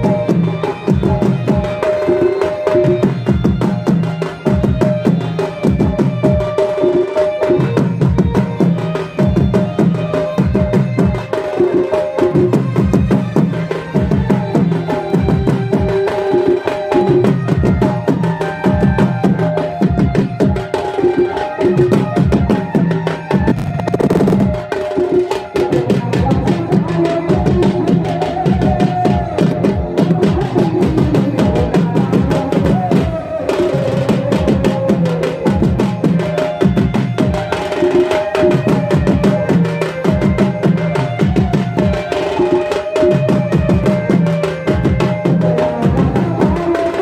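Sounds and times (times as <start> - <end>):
hand drums beating a rhythm: 0.0 - 47.0.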